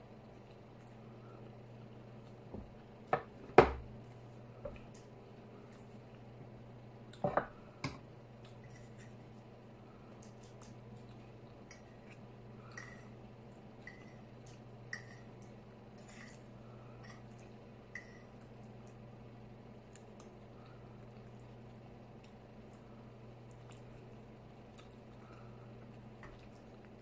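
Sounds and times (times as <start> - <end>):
soft wet chewing: 0.0 - 3.1, 3.9 - 27.0
low steady hum: 0.0 - 27.0.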